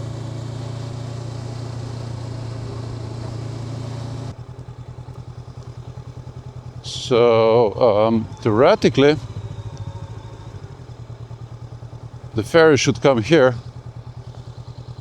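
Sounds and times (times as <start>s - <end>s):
motorcycle engine idling: 0.0s - 15.0s
motorcycle engine running: 0.0s - 15.0s
wind and road noise: 0.0s - 15.0s.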